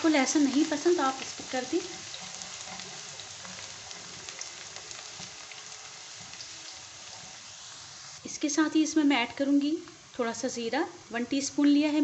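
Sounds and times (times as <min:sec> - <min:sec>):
onion and garlic sizzling in oil: 0:00.0 - 0:12.0.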